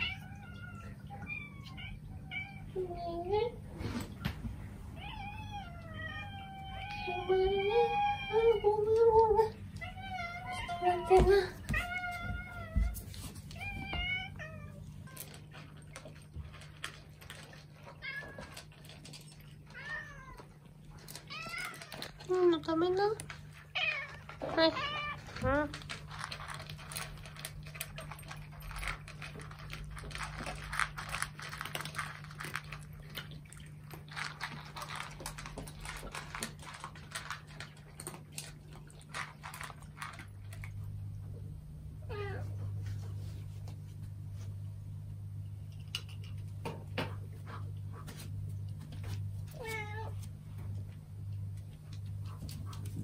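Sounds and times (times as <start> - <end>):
cats crunching dry kibble: 6.3 - 41.5, 45.6 - 53.0.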